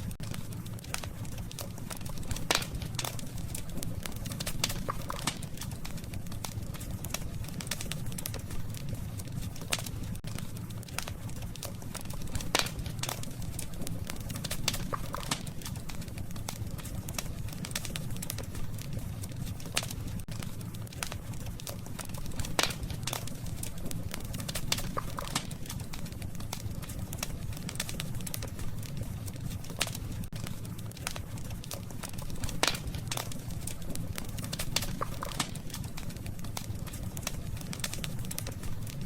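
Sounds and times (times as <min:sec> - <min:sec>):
campfire crackling: 0:00.0 - 0:39.0
fire pops and snaps: 0:00.0 - 0:39.0
low rumble of burning fire: 0:00.0 - 0:39.0.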